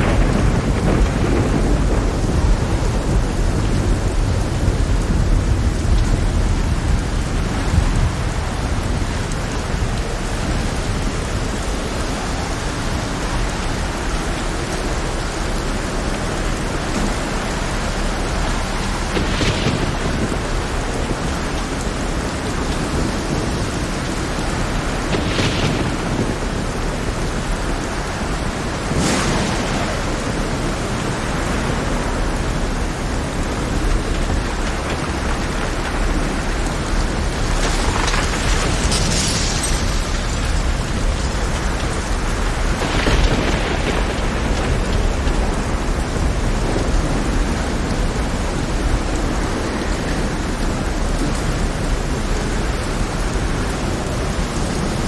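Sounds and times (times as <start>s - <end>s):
heavy rain on rough sea: 0.0s - 55.0s.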